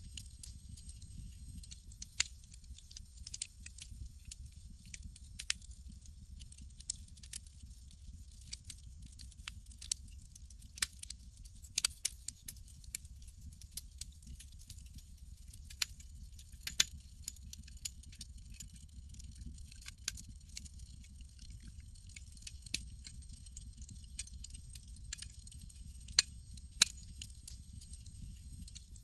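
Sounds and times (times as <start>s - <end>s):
low steady rumble: 0.0s - 10.8s, 12.7s - 29.0s
campfire crackling: 0.1s - 29.0s.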